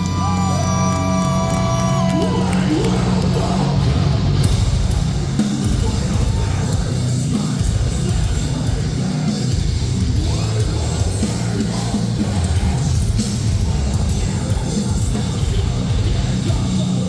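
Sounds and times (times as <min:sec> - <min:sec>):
live metal band playing: 0:00.0 - 0:17.0.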